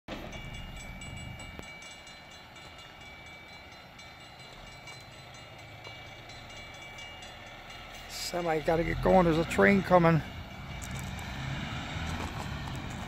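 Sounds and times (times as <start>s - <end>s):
railroad crossing bell ringing: 0.1s - 13.0s.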